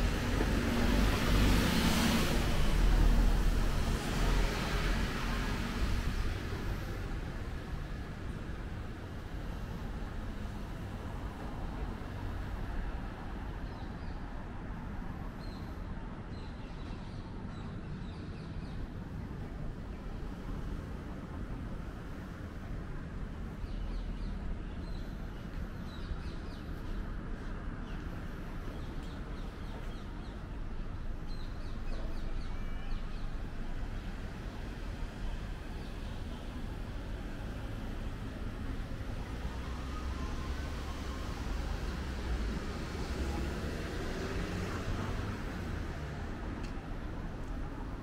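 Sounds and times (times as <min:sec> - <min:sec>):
low city rumble: 0:00.0 - 0:48.0.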